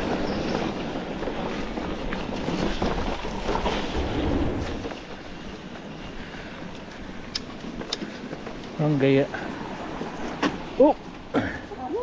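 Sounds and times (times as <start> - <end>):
bike rattling: 0.0 - 12.0
tyres crunching over gravel: 0.0 - 12.0.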